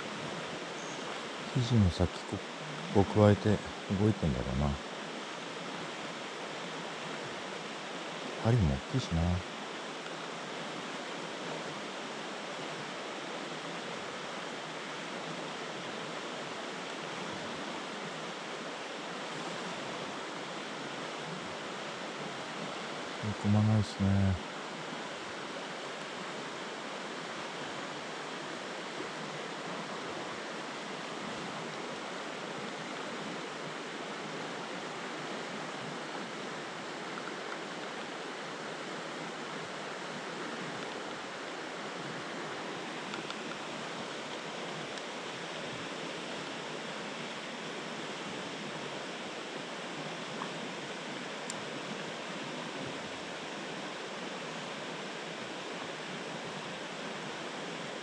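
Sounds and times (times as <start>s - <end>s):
river water flowing over rocks: 0.0s - 58.0s.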